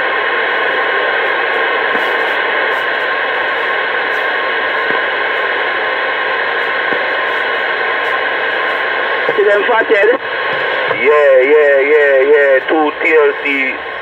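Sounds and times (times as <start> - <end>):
faint steady tones: 0.0 - 14.0
radio static hiss: 0.0 - 14.0.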